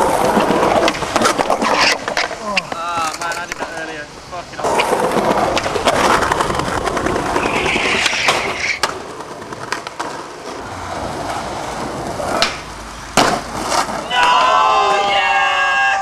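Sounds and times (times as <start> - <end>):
skateboard clacks: 0.0 - 4.0, 4.6 - 15.1
skateboard scraping slide: 0.0 - 4.0, 4.6 - 14.3
skateboard wheels rolling on concrete: 0.0 - 16.0.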